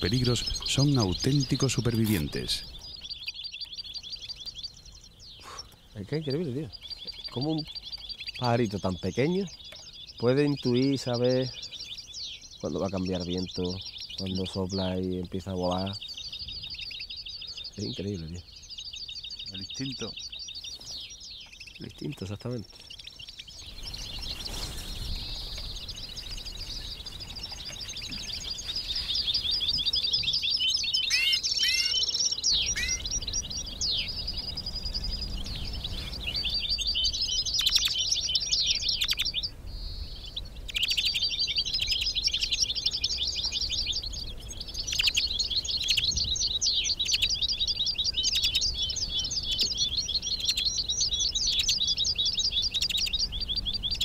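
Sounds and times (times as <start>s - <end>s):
finches twittering: 0.0s - 54.0s.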